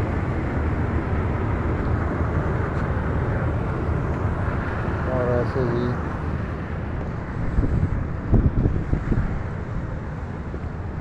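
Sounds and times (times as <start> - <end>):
air conditioning unit running: 0.0 - 11.0.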